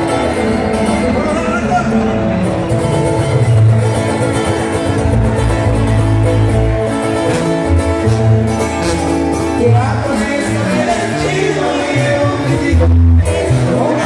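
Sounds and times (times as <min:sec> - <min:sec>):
acoustic guitars playing: 0:00.0 - 0:14.0
steady bass line: 0:00.0 - 0:14.0.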